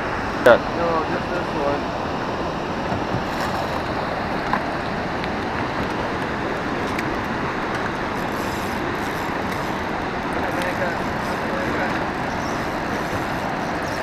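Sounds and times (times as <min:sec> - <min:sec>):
river water rushing: 0:00.0 - 0:14.0
wind: 0:00.0 - 0:14.0.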